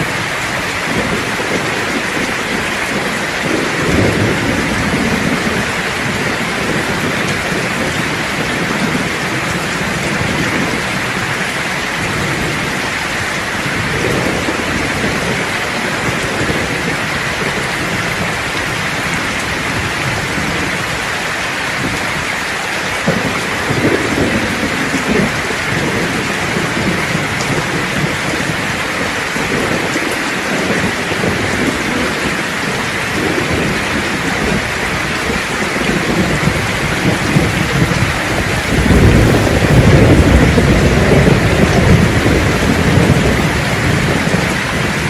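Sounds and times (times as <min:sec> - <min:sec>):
steady rain falling: 0:00.0 - 0:45.0
thunder rumbling: 0:00.0 - 0:45.0.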